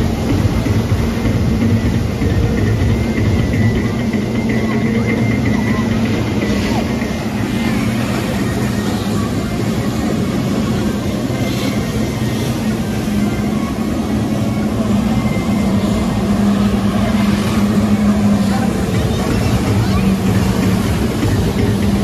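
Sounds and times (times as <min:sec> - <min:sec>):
jet ski engines droning: 0:00.0 - 0:22.0.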